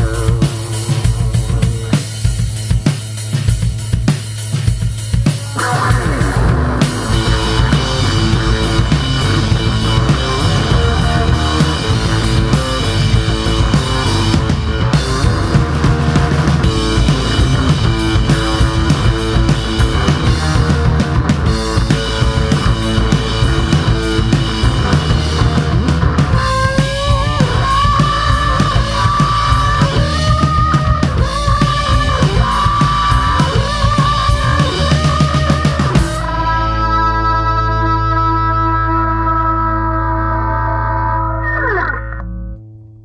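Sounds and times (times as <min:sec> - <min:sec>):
lead guitar melody with bends: 0:00.0 - 0:02.9, 0:05.2 - 0:43.0
rock music with guitars and drums: 0:00.0 - 0:43.0.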